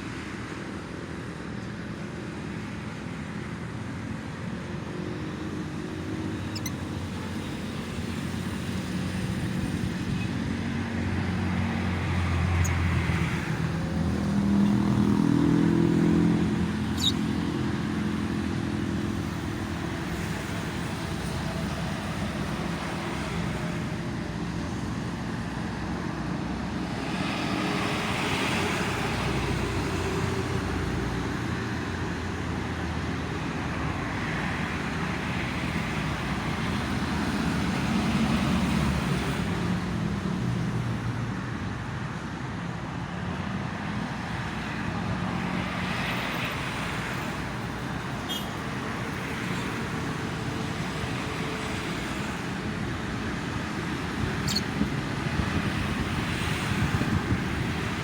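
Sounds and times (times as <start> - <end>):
heavy vehicles passing: 0.0 - 58.0
road traffic rushing: 0.0 - 58.0.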